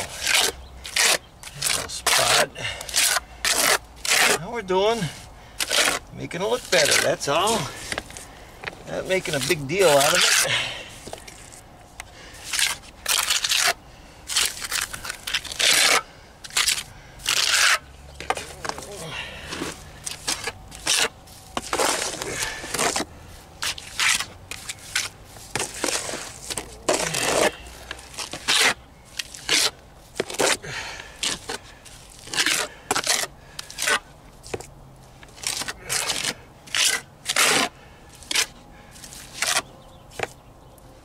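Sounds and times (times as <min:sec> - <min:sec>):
trowel scraping wet cement: 0:00.0 - 0:08.2, 0:08.9 - 0:11.6, 0:12.4 - 0:34.7, 0:35.3 - 0:40.3.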